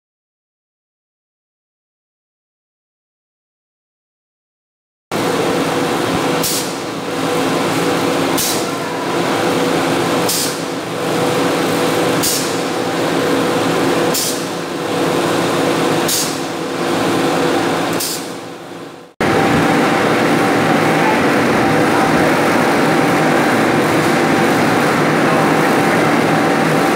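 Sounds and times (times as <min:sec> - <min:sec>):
machinery humming: 0:05.1 - 0:26.9
another machine humming: 0:05.2 - 0:26.9.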